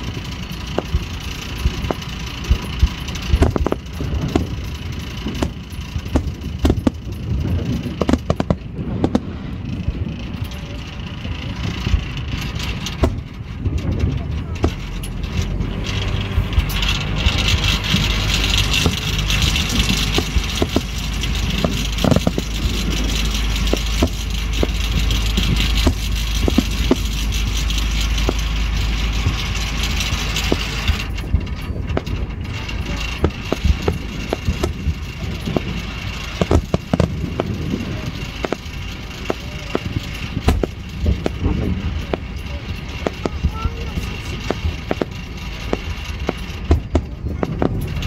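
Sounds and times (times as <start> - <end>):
fireworks pops and bangs: 0.0 - 10.8, 11.4 - 15.0, 16.4 - 48.0
low rumble: 0.0 - 48.0.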